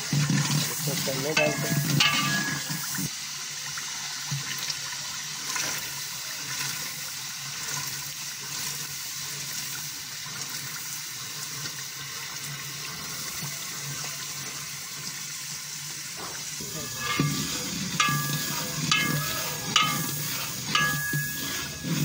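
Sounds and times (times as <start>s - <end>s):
masala sizzling and bubbling: 0.0s - 22.0s.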